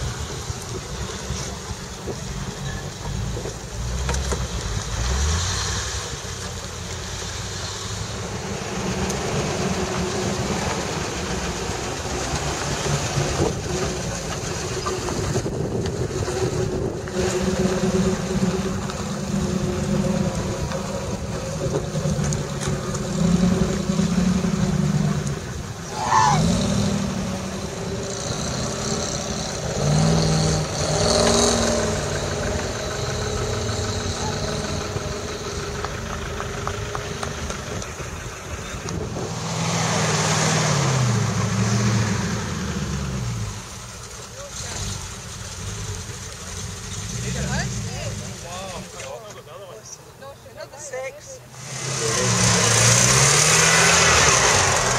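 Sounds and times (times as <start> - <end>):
engines revving under load: 0.0 - 49.4, 50.8 - 54.9.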